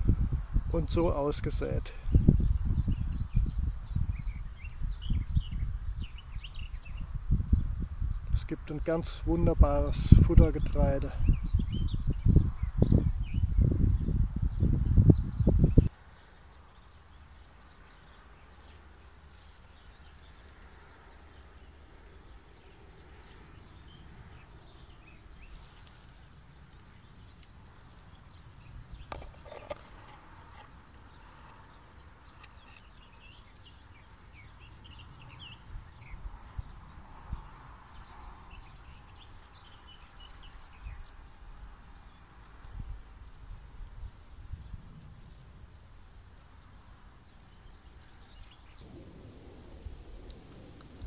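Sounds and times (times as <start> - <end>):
low wind rumble: 0.0 - 19.0, 19.9 - 51.0.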